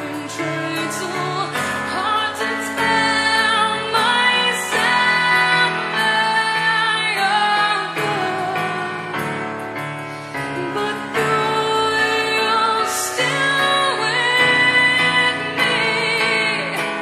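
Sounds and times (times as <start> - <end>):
instrumental backing music: 0.0 - 17.0.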